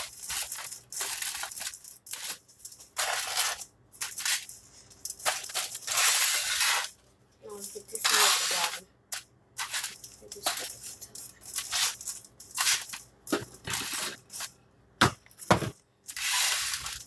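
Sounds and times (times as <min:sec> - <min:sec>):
rustling and scraping of food: 0:00.0 - 0:14.6, 0:15.4 - 0:17.0.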